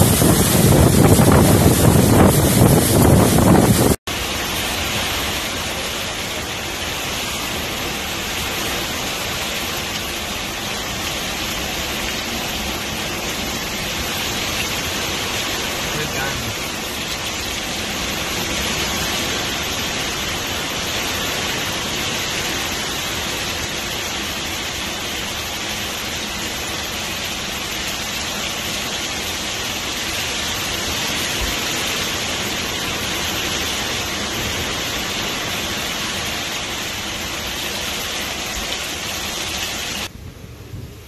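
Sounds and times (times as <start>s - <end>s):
heavy wind-driven rain: 0.0s - 41.0s.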